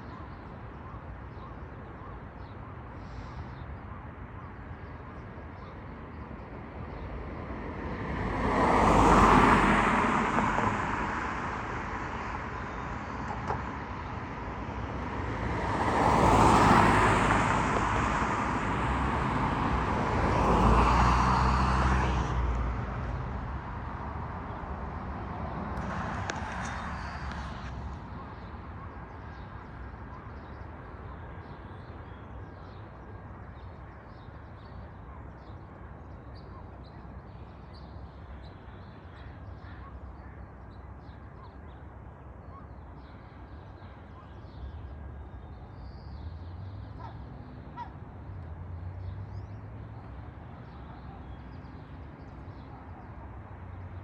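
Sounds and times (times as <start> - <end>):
traffic rumble: 5.4 - 54.0.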